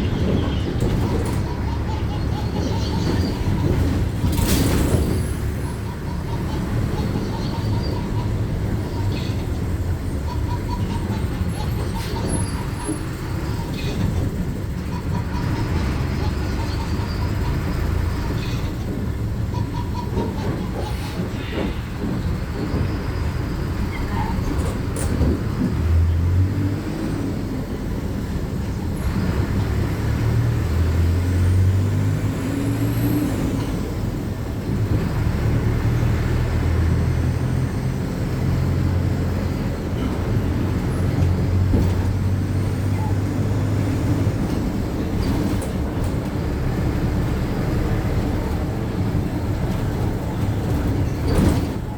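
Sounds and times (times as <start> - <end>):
bus engine drone: 0.0 - 51.9
road rumble: 0.0 - 51.9.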